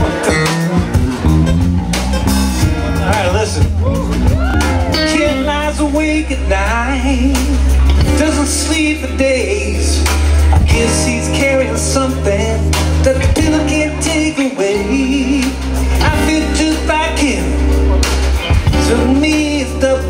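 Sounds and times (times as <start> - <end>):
bass line: 0.0 - 20.0
electric guitar: 0.0 - 20.0
person singing: 2.8 - 20.0.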